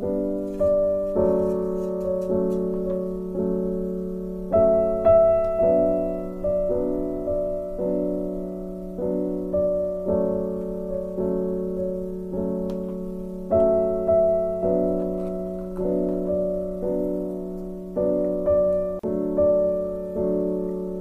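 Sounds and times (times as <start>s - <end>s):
gentle piano chords: 0.0s - 21.0s.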